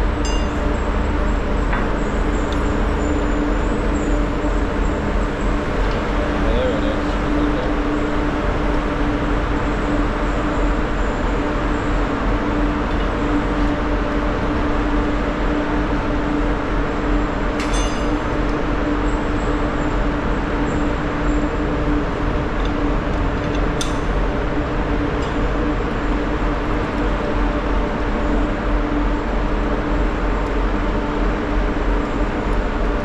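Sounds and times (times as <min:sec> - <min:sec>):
ferry machinery drone: 0:00.0 - 0:33.0.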